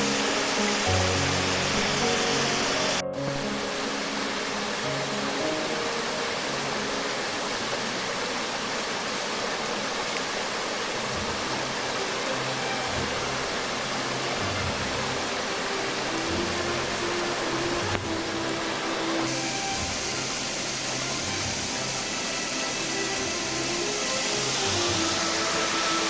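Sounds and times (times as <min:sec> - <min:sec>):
soft background music: 0:00.0 - 0:09.4, 0:10.6 - 0:26.0
waterfall rushing: 0:00.0 - 0:26.0.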